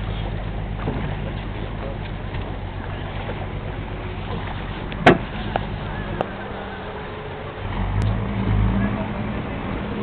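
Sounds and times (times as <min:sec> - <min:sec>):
motorboat engine hum: 0:00.0 - 0:10.0
water noise: 0:00.0 - 0:10.0.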